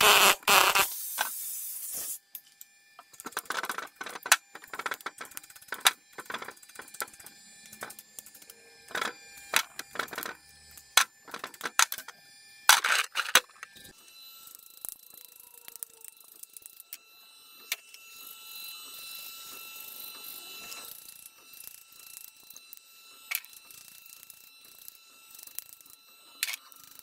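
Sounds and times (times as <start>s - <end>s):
air tool running: 0.0s - 2.4s, 3.0s - 12.1s, 13.1s - 27.0s.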